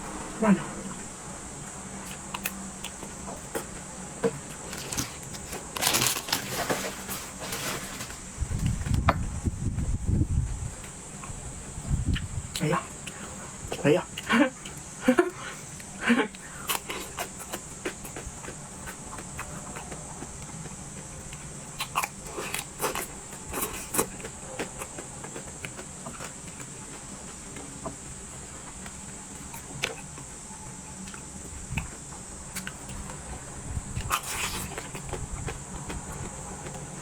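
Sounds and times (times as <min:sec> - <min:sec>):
chewing: 0:01.6 - 0:08.8, 0:10.8 - 0:37.0.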